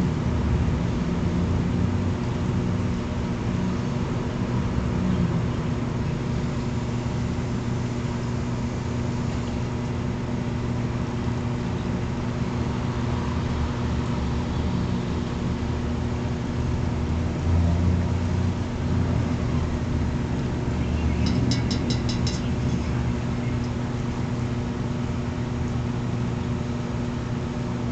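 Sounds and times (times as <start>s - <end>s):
machine hum with hiss: 0.0s - 27.9s.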